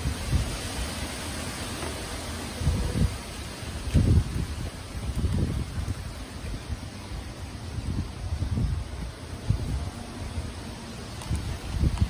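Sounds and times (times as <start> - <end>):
wind buffeting microphone: 0.0 - 12.0
wind gusting through trees: 0.0 - 12.0.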